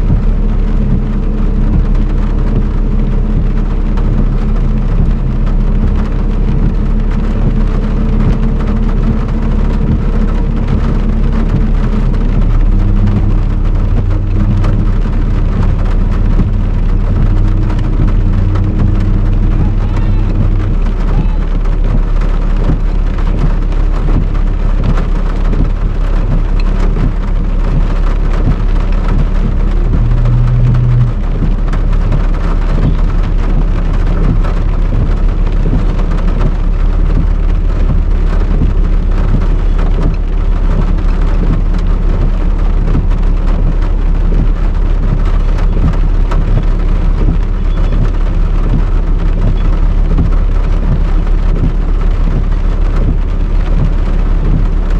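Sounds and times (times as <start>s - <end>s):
heavy rain pattering: 0.0s - 54.9s
low rumble: 0.0s - 54.9s.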